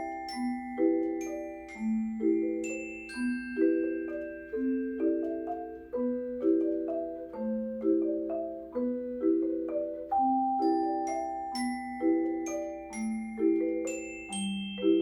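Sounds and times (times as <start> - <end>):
mallet percussion waltz: 0.0 - 15.0.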